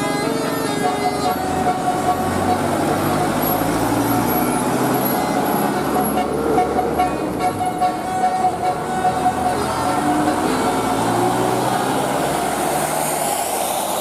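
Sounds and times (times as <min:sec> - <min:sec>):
dense noisy background: 0:00.0 - 0:14.0.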